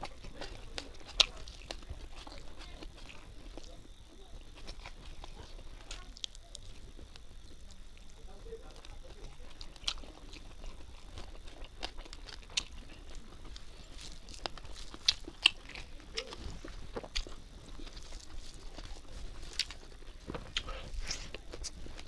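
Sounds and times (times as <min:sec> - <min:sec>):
chewing: 0:00.0 - 0:22.0
fingers squishing rice on plate: 0:00.0 - 0:22.0.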